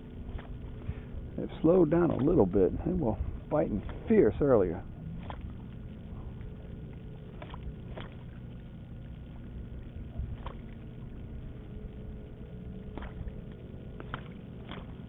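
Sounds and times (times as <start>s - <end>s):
low rumble of wind: 0.0s - 15.0s
water lapping: 0.0s - 15.0s.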